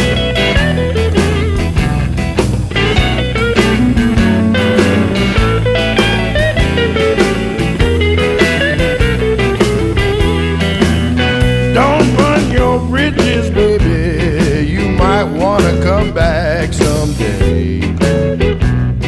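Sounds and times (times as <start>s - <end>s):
blues band playing: 0.0s - 19.0s
electric guitar bending notes: 0.0s - 19.0s.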